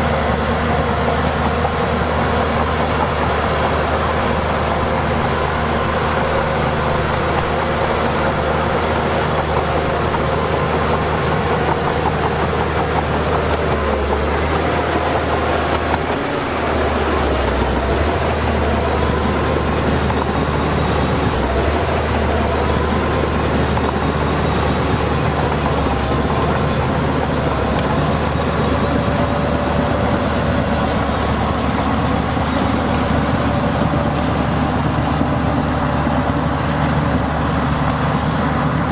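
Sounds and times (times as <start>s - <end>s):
heavy diesel machinery running: 0.0s - 38.9s.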